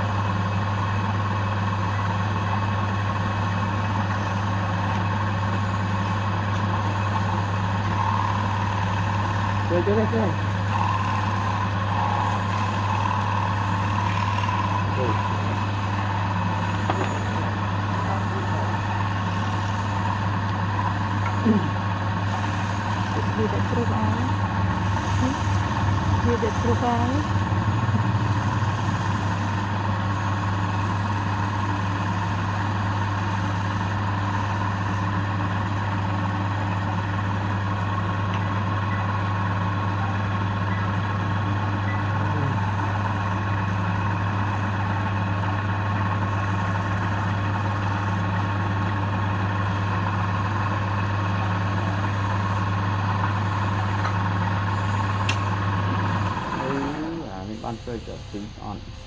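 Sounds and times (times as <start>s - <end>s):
wood lathe humming: 0.0s - 59.0s.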